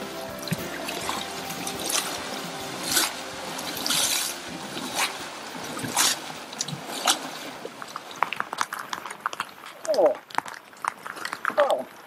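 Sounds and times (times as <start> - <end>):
oars splashing in water: 0.0 - 12.0.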